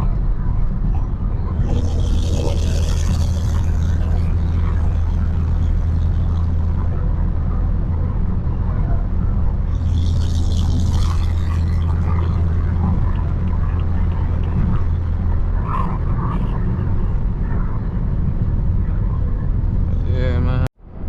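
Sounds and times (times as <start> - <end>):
car exhaust droning: 0.0 - 20.4.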